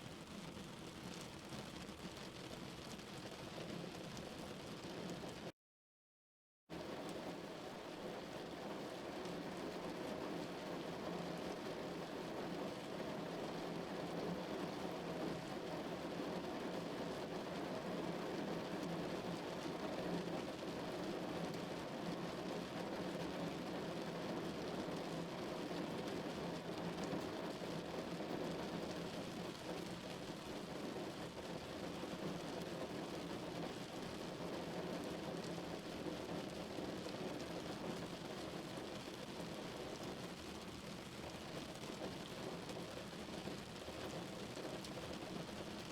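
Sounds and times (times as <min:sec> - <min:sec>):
rain on car roof: 0:00.1 - 0:05.5, 0:06.8 - 0:45.9.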